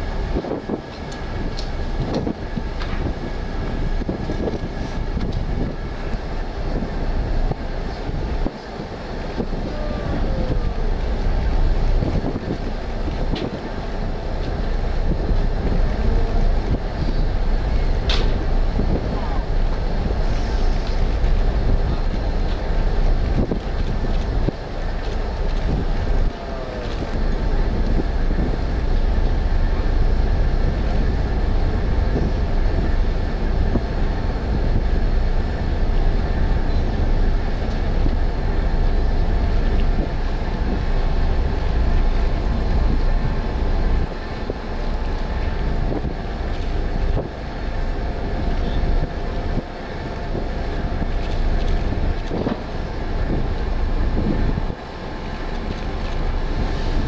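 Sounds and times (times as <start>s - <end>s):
faint machinery hum: 0.0s - 57.0s
ship engines rumbling: 0.0s - 57.0s
wind buffeting microphone: 0.0s - 57.0s.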